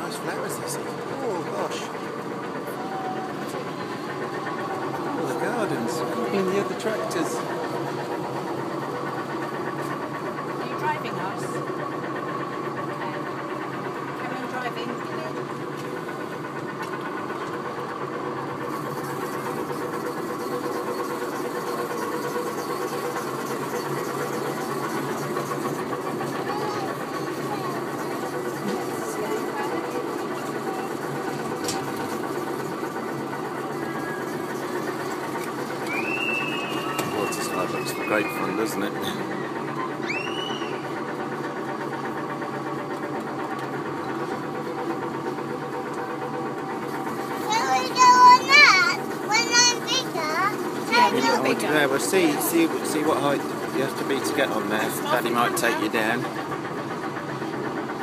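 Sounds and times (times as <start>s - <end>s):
ride motor humming: 0.0s - 58.0s.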